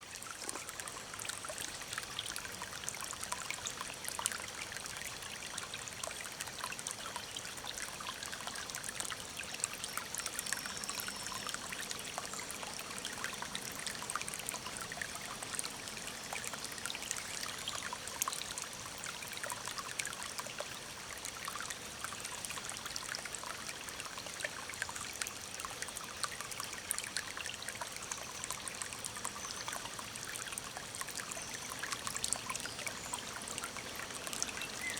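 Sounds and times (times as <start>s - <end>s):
stream trickling over stones: 0.0s - 34.9s.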